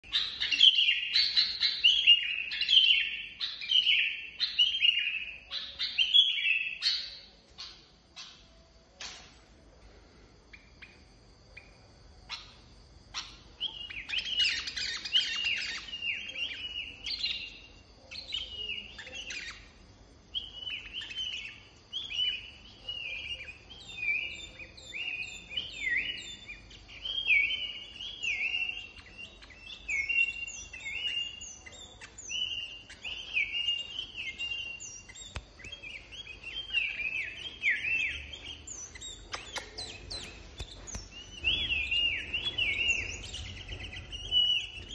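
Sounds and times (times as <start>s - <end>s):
bird singing chirpy phrases: 0.0s - 44.9s.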